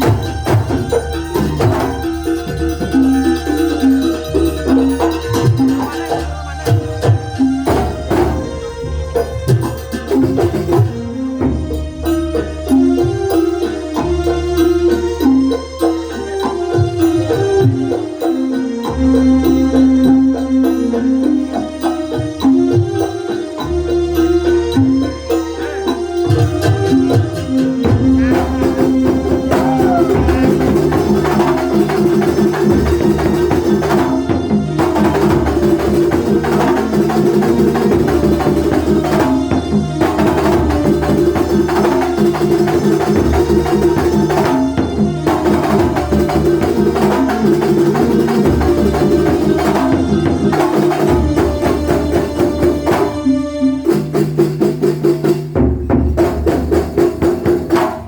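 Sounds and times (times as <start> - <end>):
sustained melody: 0.0 - 54.2
hand drums and percussion: 0.0 - 58.0.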